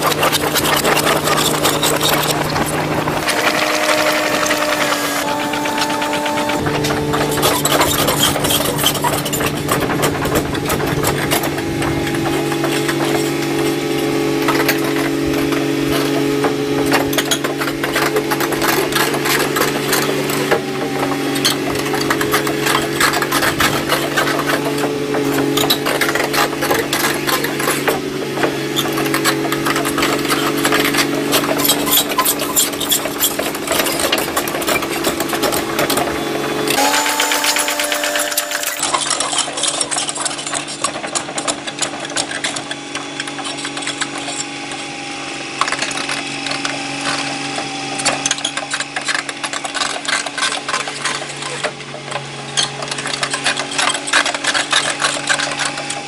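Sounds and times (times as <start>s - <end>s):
excavator engine running: 0.0s - 56.0s
steel tracks clicking and clattering: 0.0s - 56.0s.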